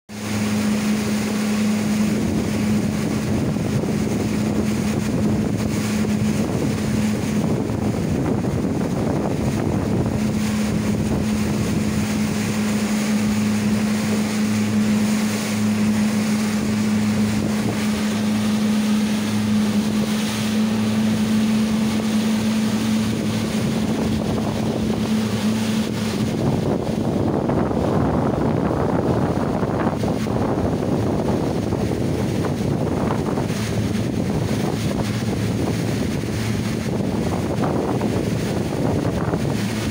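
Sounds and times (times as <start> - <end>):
motorboat engine hum: 0.1 - 39.9
water rushing along hull: 0.1 - 39.9
wind buffeting microphone: 0.1 - 39.9.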